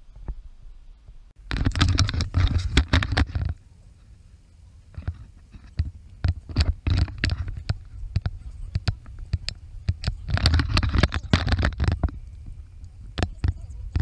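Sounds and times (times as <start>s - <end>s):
wind rumble: 0.0s - 14.0s.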